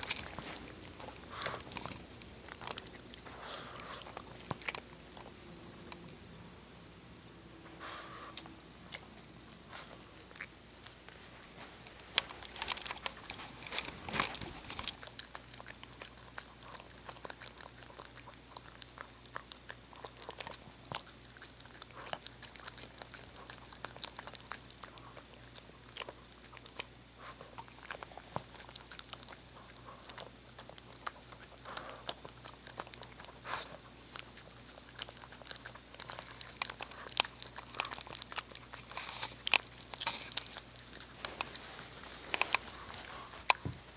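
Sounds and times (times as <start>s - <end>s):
dog crunching food: 0.0s - 6.2s, 7.8s - 43.9s.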